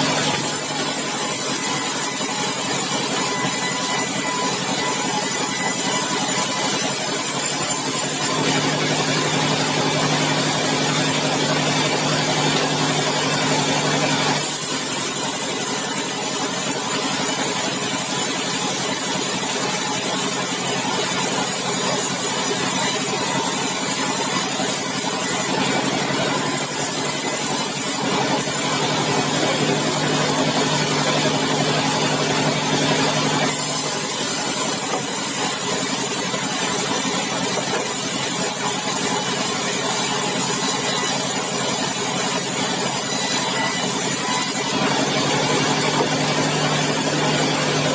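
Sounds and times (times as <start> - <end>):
sawmill machinery hum: 0.0 - 47.9.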